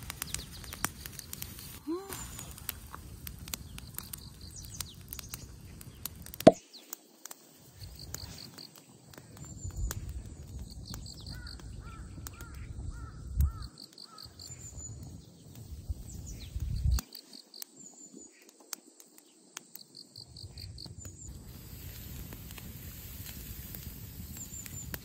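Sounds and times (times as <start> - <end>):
insects chirping: 0.1 - 25.0.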